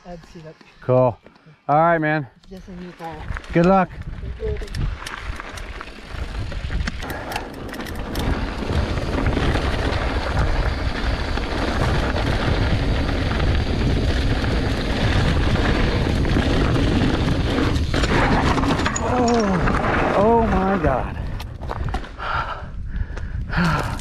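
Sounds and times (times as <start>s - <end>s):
wind on microphone: 2.8s - 24.0s
bike tyres rolling on gravel: 2.9s - 24.0s.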